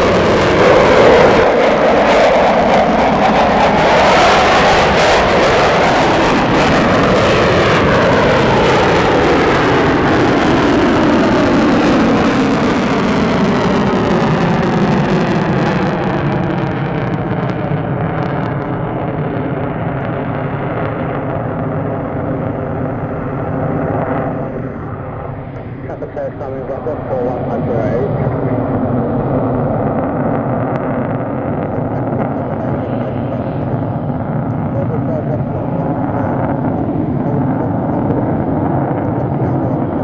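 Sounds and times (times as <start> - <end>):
jet engine afterburner roar: 0.0 - 40.0.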